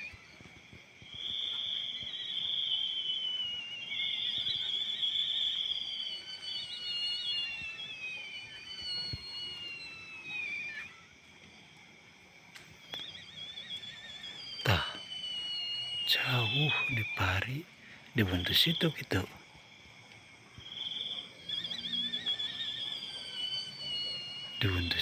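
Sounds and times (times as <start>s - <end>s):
high whistle-like tones: 0.0s - 25.0s.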